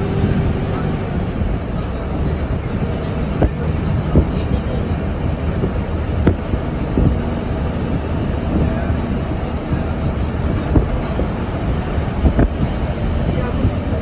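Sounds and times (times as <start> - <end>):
vehicle road and engine rumble: 0.0 - 14.0.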